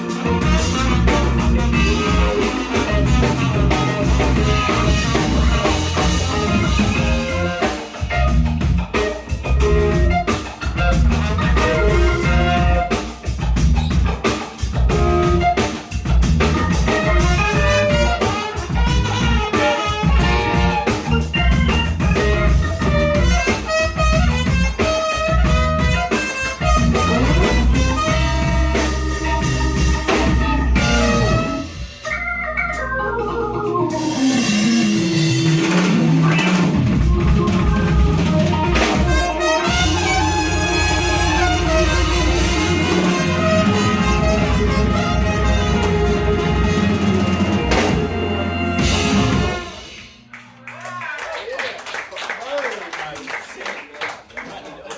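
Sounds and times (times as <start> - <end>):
soul-jazz band playing: 0.0 - 50.3.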